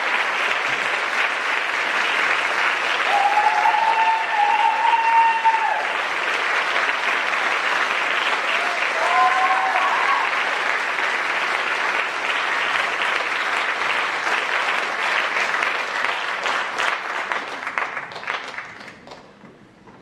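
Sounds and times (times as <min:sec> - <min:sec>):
audience applauding: 0:00.0 - 0:19.4.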